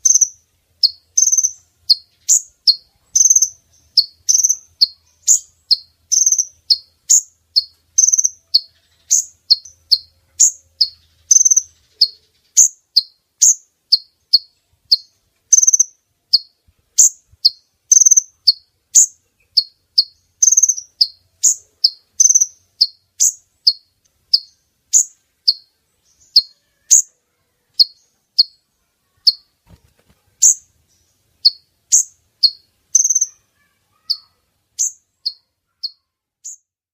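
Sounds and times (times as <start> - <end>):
bird high sharp chirps: 0.0 - 36.7.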